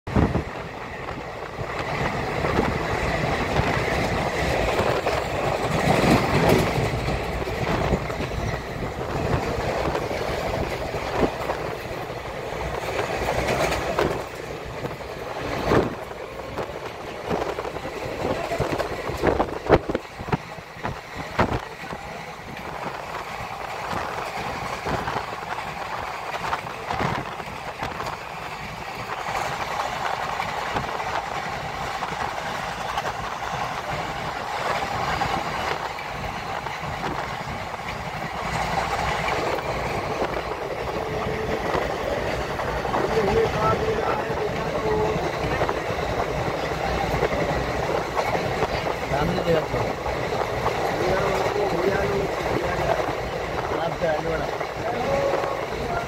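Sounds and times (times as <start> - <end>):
freight train passing: 0.0 - 56.0
train rumble and rushing air: 0.0 - 56.0
wheels clacking over rail joints: 0.1 - 56.0.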